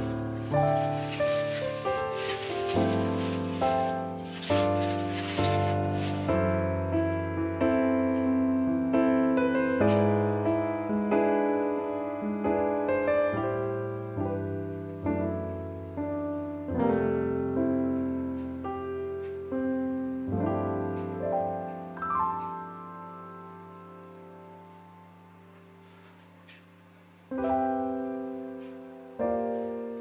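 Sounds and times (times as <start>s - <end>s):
slow solo piano piece: 0.0s - 30.0s.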